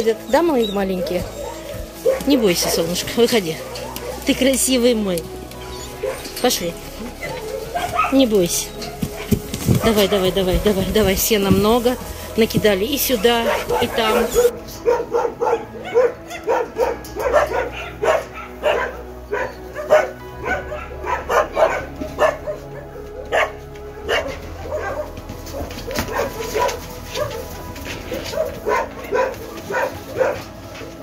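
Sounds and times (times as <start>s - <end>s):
dogs barking and yipping: 0.0s - 31.0s.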